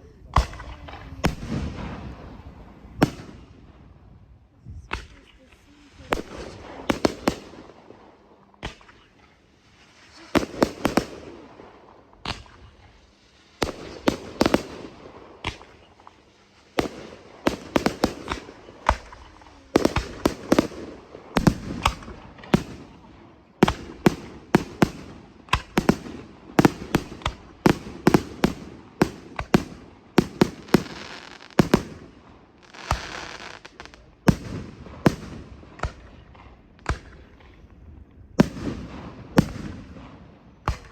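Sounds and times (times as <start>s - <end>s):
continuous hazy rumble: 0.0s - 33.0s
firework bangs: 0.2s - 4.0s, 4.9s - 37.7s, 38.4s - 40.9s.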